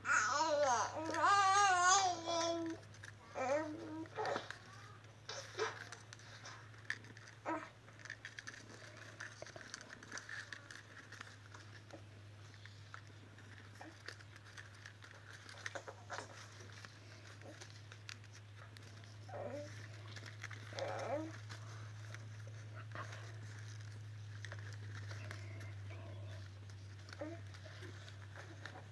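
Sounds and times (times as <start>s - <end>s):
leaves rustling and crinkling: 0.0s - 28.9s
low steady hum: 0.0s - 28.9s.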